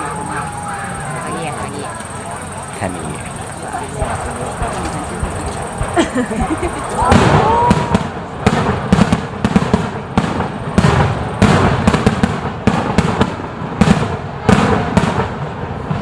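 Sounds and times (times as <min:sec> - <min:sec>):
fireworks bursting with crackling: 0:00.0 - 0:16.0.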